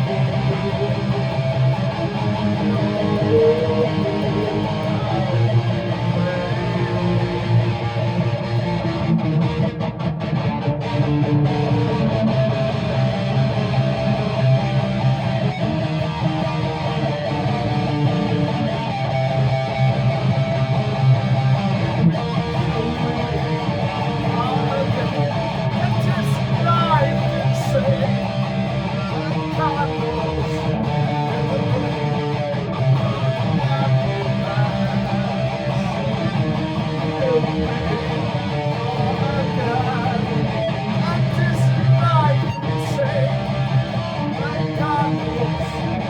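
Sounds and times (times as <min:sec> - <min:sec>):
guitar strumming: 0:00.0 - 0:46.0.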